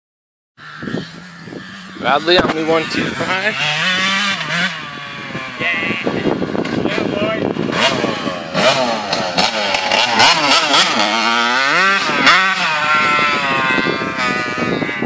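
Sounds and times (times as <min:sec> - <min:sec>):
motorcycle engine revving: 0:00.6 - 0:15.0.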